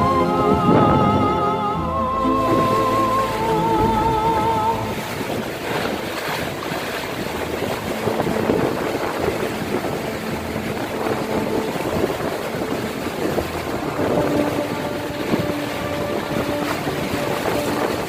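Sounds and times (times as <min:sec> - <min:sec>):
rough waves washing: 0:00.0 - 0:18.0
storm wind: 0:00.0 - 0:18.0.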